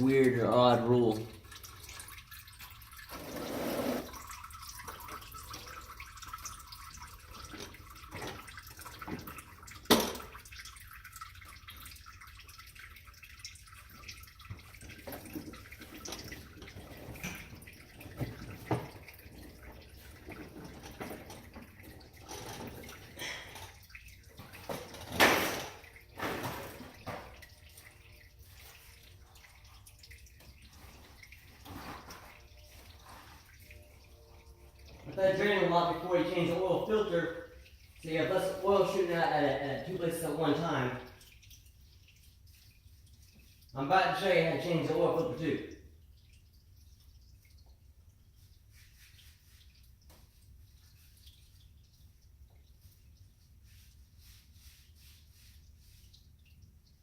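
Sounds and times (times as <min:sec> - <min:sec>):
oil draining and dripping: 0:00.0 - 0:57.0.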